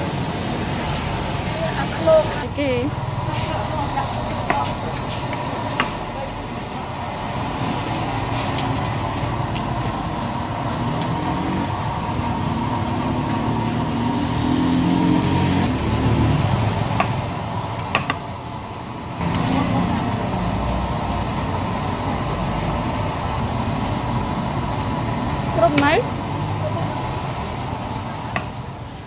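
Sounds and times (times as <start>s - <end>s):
motor traffic passing: 0.0s - 29.0s.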